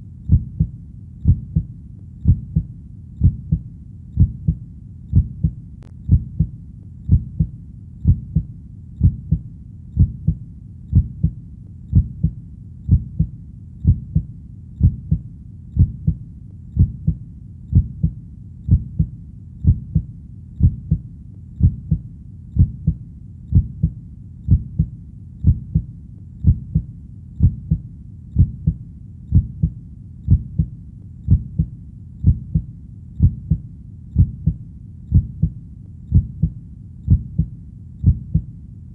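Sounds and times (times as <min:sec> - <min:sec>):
heartbeat thumps: 0:00.0 - 0:38.5
faint low rumble: 0:00.0 - 0:38.9.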